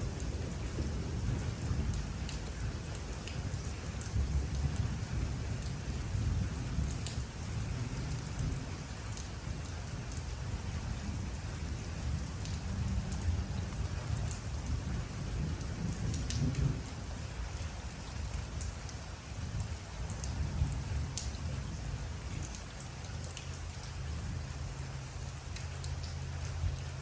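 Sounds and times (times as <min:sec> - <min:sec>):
steady rain falling: 0:00.0 - 0:27.0
raindrops ticking sharply: 0:00.1 - 0:27.0.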